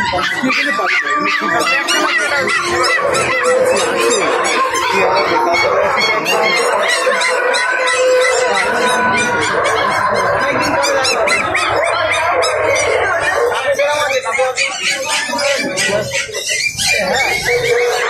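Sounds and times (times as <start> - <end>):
din of animal calls: 0.0 - 18.0.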